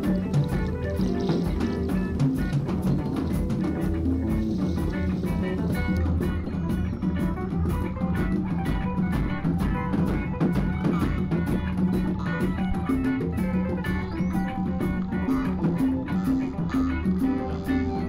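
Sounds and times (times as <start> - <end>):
bass line: 0.0 - 18.0
drum kit beat: 0.0 - 18.0.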